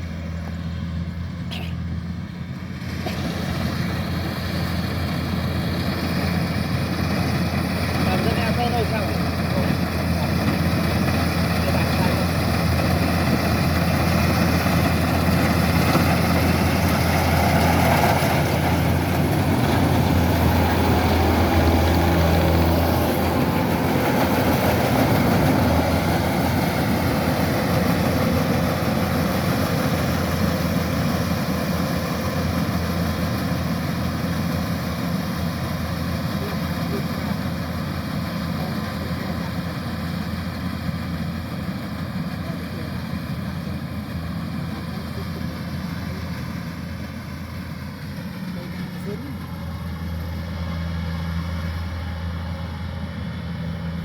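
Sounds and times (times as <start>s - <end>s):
harvester diesel engine droning: 0.0s - 54.0s.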